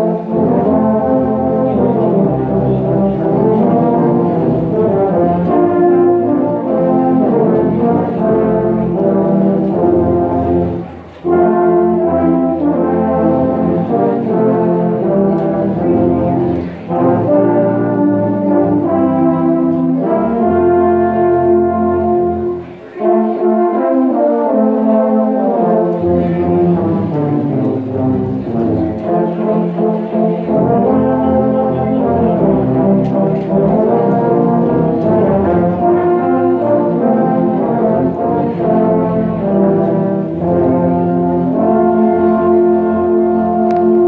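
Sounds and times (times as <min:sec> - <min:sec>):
tubas and euphoniums playing: 0:00.0 - 0:44.0.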